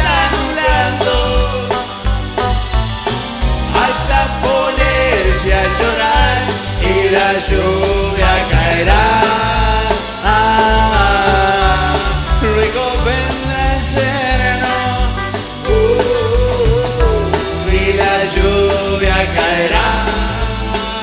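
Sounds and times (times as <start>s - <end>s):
man singing a slow ballad: 0.0s - 1.9s, 3.7s - 21.0s
live band with drum kit: 0.0s - 21.0s.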